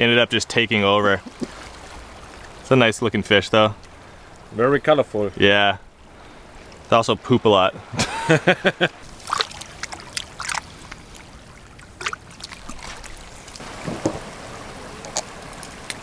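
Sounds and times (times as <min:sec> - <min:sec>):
seawater sloshing and trickling: 0:00.7 - 0:16.0.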